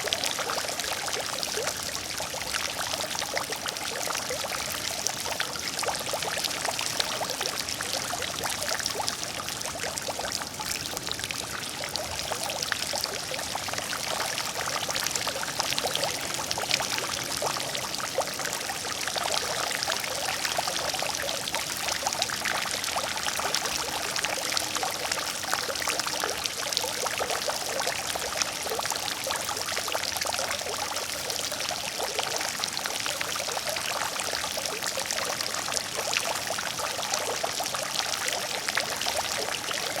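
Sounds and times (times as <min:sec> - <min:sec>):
water fountain splashing: 0:00.0 - 0:40.0.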